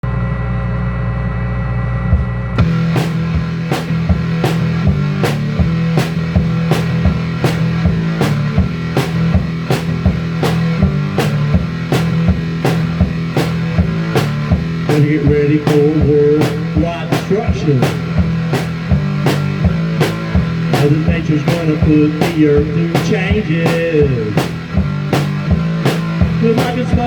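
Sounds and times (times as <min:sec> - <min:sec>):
distorted guitar and bass: 0:00.0 - 0:27.0
drum kit beat: 0:02.1 - 0:27.0.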